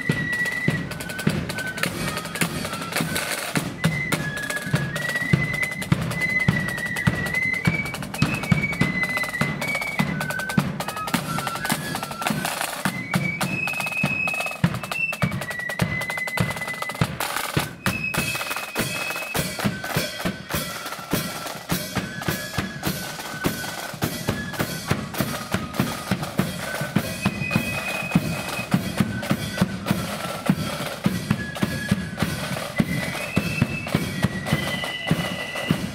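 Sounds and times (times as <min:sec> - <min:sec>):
flutes playing melody: 0:00.0 - 0:35.9
rapid snare drumming: 0:00.0 - 0:35.9.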